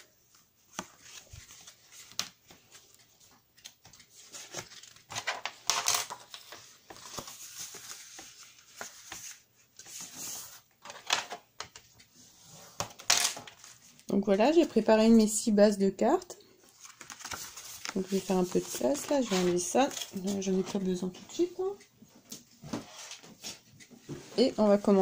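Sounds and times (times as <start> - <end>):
paper rustling: 0.0 - 14.8, 16.7 - 25.0.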